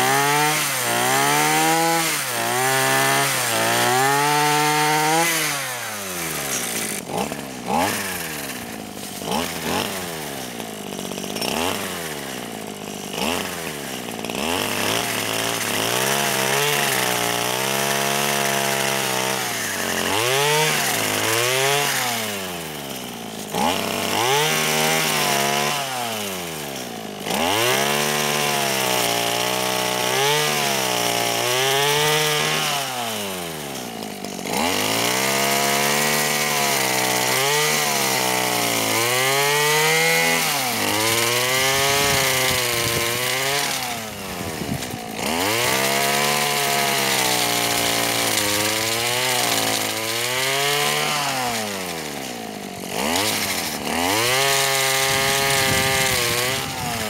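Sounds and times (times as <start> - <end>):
chain cutting wood: 0.0 - 57.0
chainsaw engine revving: 0.0 - 57.0.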